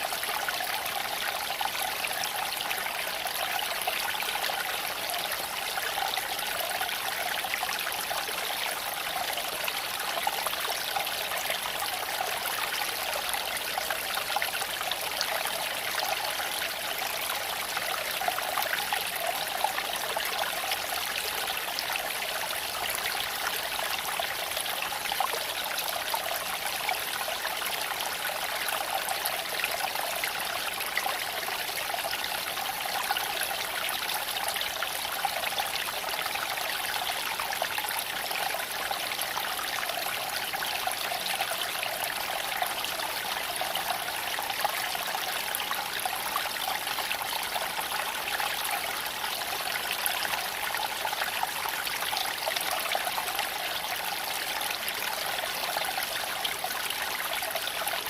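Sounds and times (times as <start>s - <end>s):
creek babbling over stones: 0.0s - 58.0s.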